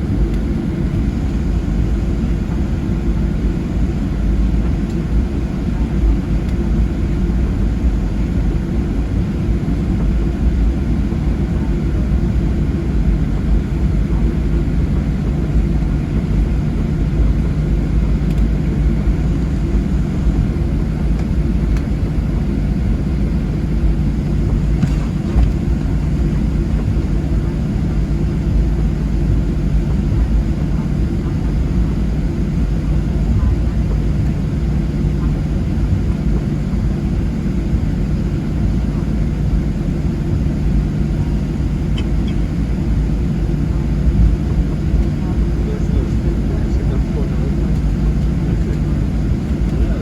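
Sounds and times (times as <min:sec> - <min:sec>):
aircraft cabin engine rumble: 0:00.0 - 0:50.0.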